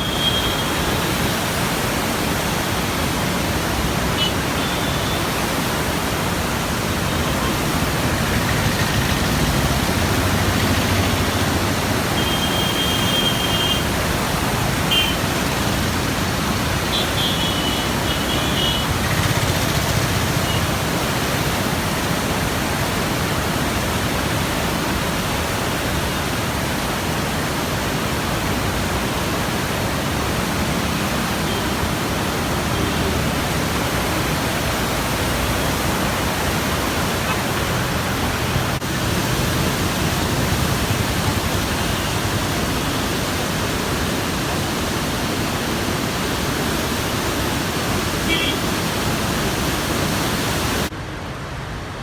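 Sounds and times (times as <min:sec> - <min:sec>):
rushing floodwater: 0:00.0 - 0:52.0.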